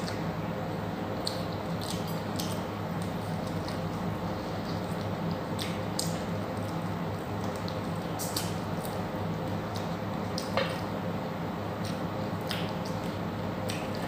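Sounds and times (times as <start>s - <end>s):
steady low hum: 0.0s - 14.0s
wet chewing with mouth clicks: 1.1s - 10.9s, 11.8s - 14.0s.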